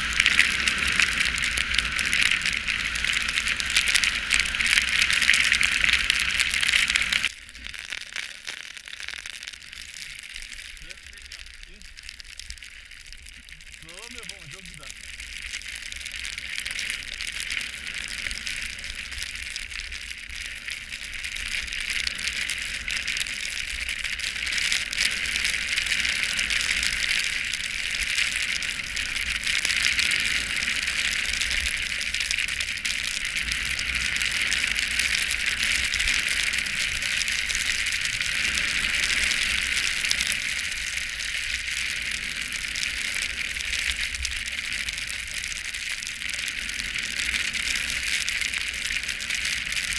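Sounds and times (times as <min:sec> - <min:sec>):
skis sliding on snow: 0:00.0 - 0:49.9.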